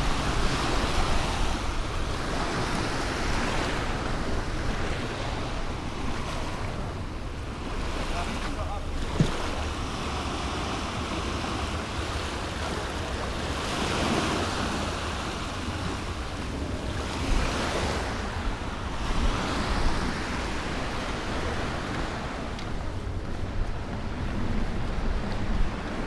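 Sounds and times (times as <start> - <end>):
sea waves washing onto beach: 0.0 - 26.0
wind rumbling on microphone: 0.0 - 26.0.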